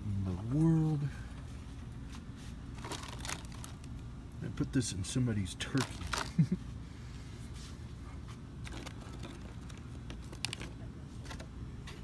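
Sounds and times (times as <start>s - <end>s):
shop interior hum: 0.0s - 12.0s.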